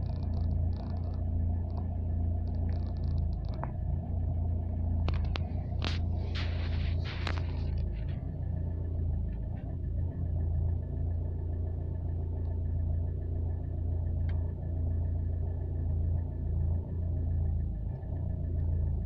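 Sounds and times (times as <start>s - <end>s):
diesel engine idling: 0.0s - 19.0s
high-pitched engine tick: 0.0s - 19.0s.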